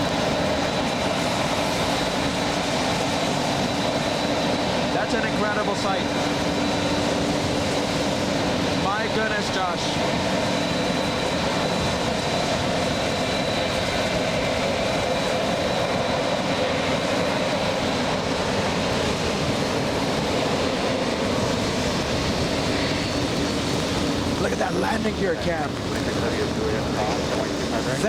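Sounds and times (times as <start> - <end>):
jet engines running: 0.0 - 28.0.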